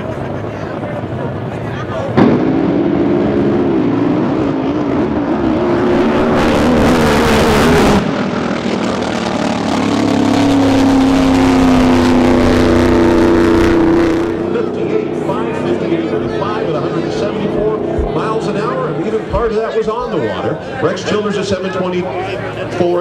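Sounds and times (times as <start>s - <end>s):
steady engine drone: 0.0s - 23.0s
wavering boat engine: 0.0s - 23.0s.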